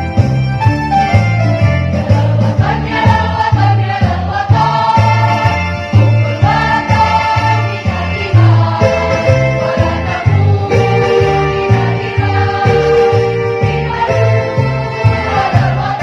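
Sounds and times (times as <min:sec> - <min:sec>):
instrumental accompaniment with pulsing bass: 0:00.0 - 0:16.0
choir singing: 0:02.0 - 0:16.0.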